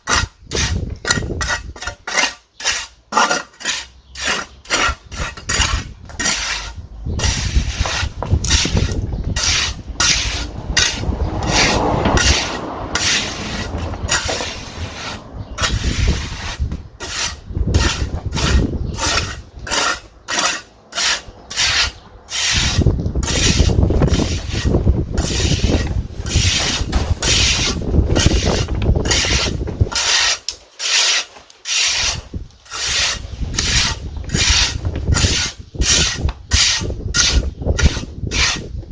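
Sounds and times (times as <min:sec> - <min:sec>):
hand tool rasping: 0:00.0 - 0:38.9.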